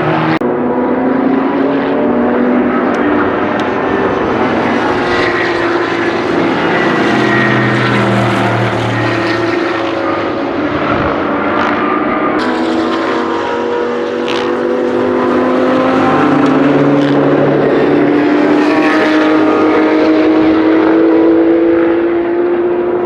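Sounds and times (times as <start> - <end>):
other race car engines: 0.0 - 23.0
racing engine accelerating: 0.0 - 23.0.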